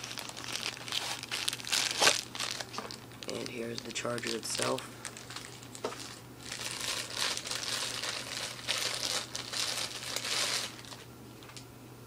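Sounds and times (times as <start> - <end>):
packaging crinkling and rustling: 0.0 - 11.6.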